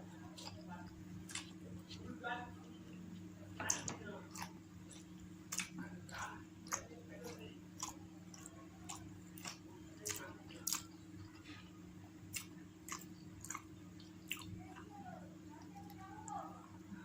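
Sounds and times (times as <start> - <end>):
person chewing food: 0.2 - 2.0, 3.1 - 14.9.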